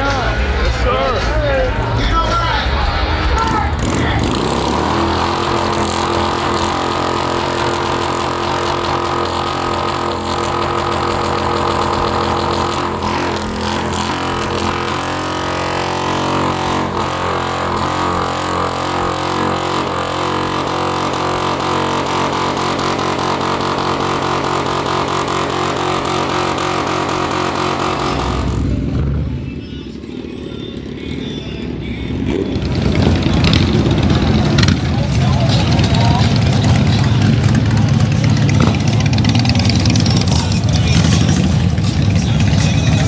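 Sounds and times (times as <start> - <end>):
motorcycle engine drone: 0.0 - 43.0.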